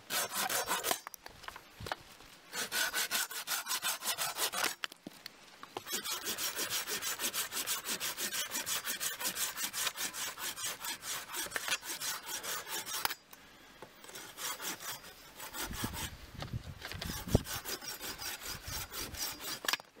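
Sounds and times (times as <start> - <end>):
pruning saw cutting branch: 0.0 - 1.2, 2.5 - 4.8, 5.8 - 13.2, 14.0 - 16.2, 16.8 - 19.9.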